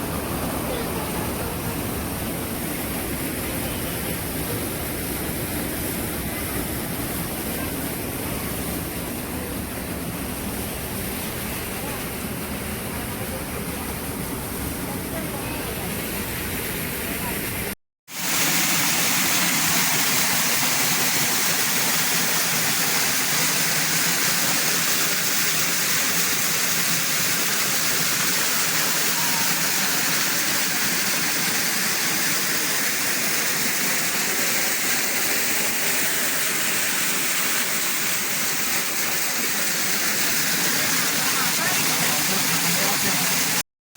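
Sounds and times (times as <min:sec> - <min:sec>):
rushing water: 0:00.0 - 0:43.6.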